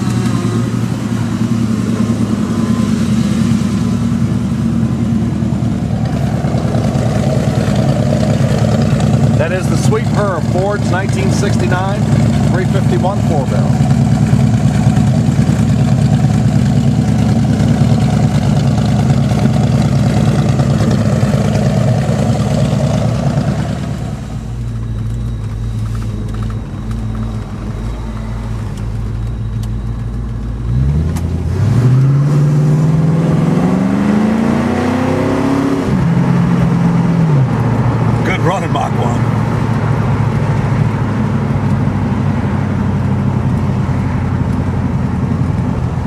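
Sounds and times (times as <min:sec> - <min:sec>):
car engine running and revving: 0:00.0 - 0:46.0.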